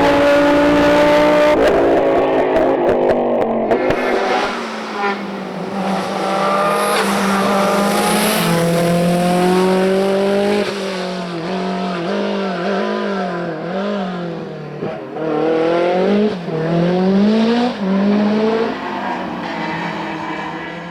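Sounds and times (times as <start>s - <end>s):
race car engine revving: 0.0s - 20.9s.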